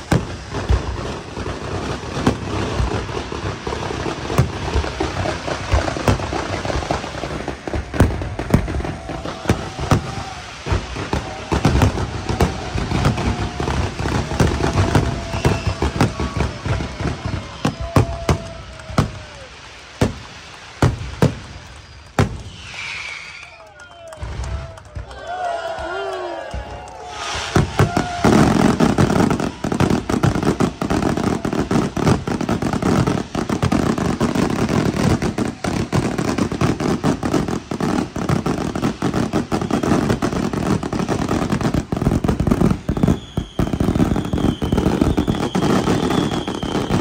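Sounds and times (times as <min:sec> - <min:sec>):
fireworks shells bursting bangs: 0:00.0 - 0:23.6, 0:26.5 - 0:47.0
fireworks crackling: 0:00.0 - 0:47.0.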